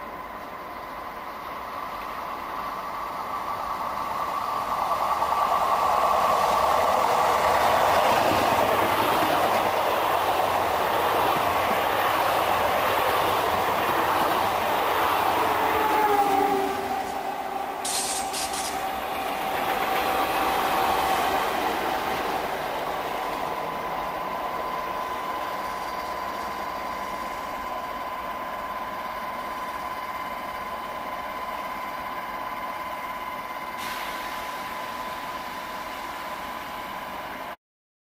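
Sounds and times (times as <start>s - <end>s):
train rushing past: 0.8s - 37.5s.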